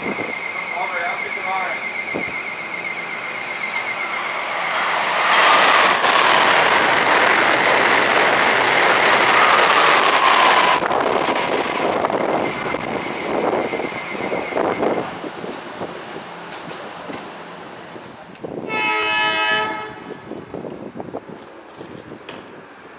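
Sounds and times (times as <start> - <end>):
train passing at speed: 0.0 - 22.9
train rumble: 0.0 - 22.9.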